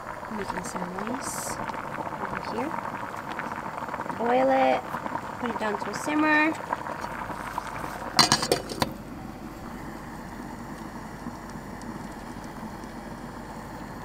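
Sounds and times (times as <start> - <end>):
water bubbling: 0.0 - 13.4
gas burner flame hissing: 0.0 - 14.0.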